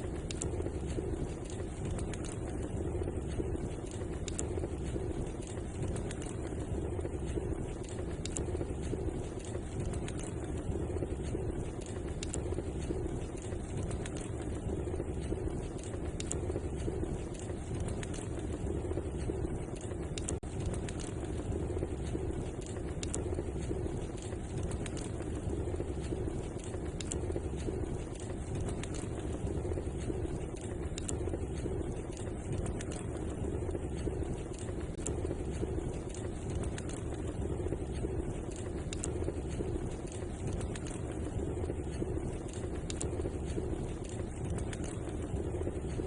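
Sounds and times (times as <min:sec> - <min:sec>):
fire hissing: 0:00.0 - 0:46.0
wood fire crackling and popping: 0:00.0 - 0:46.0.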